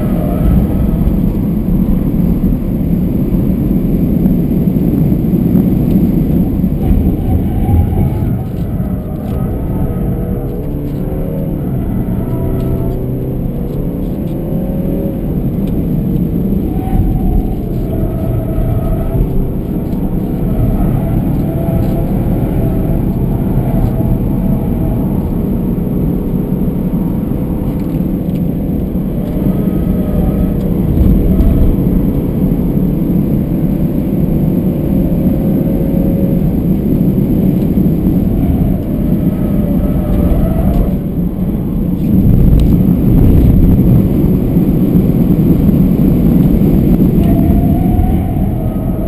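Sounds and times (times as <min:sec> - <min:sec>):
car engine driven hard: 0:00.0 - 0:49.0
tyre and wind noise: 0:00.0 - 0:49.0.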